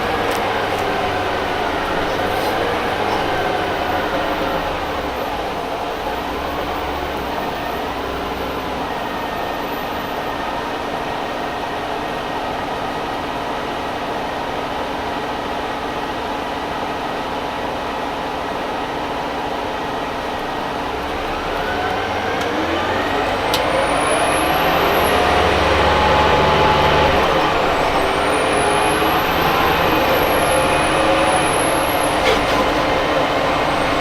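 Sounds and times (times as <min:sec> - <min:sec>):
bus engine and drivetrain whine: 0:00.0 - 0:34.0.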